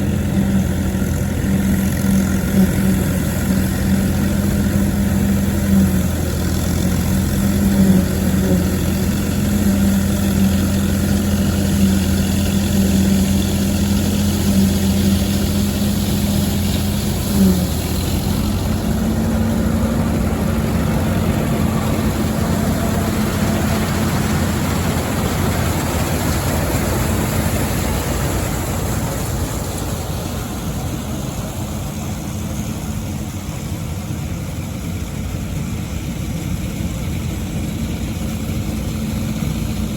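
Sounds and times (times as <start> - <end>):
combine rushing and rattling: 0.0 - 35.0
tractor engine drone: 0.0 - 39.9.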